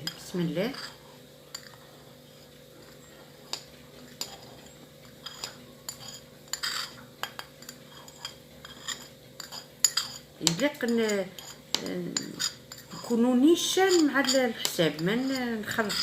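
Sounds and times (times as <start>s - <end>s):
spoon clinking against a dish: 0.0s - 1.8s, 2.8s - 16.0s.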